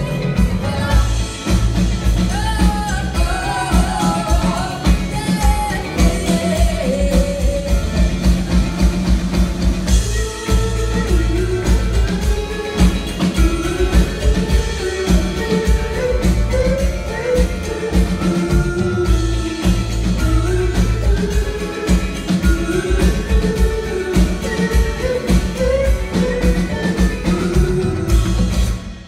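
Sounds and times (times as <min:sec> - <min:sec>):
woman singing lead vocal: 0:00.0 - 0:08.6, 0:09.9 - 0:28.6
live band playing: 0:00.0 - 0:29.0.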